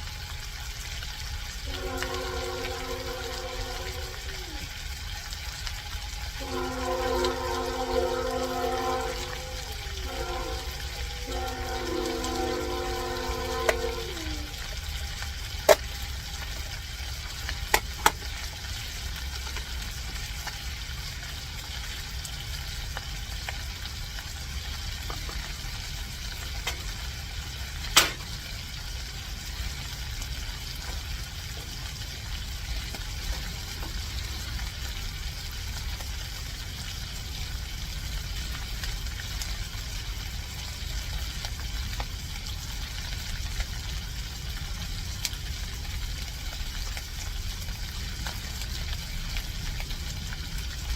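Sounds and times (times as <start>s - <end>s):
fish sizzling in hot oil: 0.0s - 50.9s.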